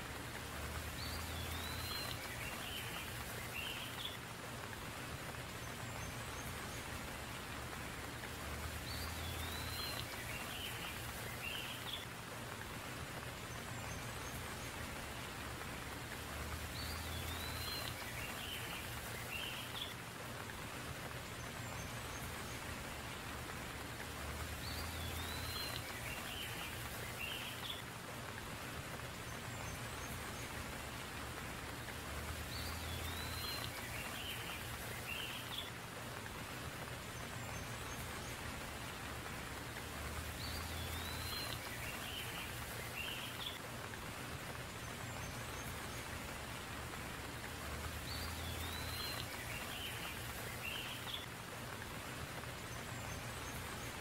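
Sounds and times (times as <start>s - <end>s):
rain running off a roof: 0.0s - 54.0s.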